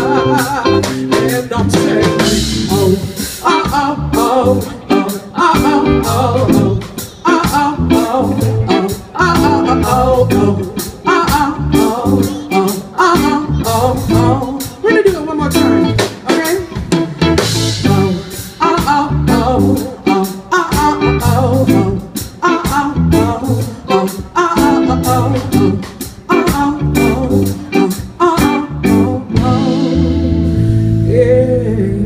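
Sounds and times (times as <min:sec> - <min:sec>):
drum kit beat: 0:00.0 - 0:31.4
live band playing: 0:00.0 - 0:32.0
singer's voice: 0:00.0 - 0:32.0.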